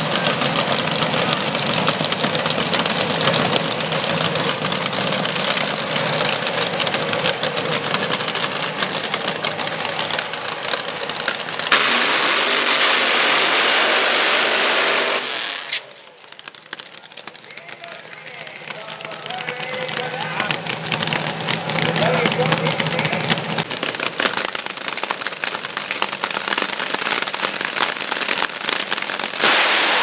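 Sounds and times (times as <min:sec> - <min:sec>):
dragster engines idling: 0:00.0 - 0:30.0
dragster full-throttle burnout: 0:00.0 - 0:30.0.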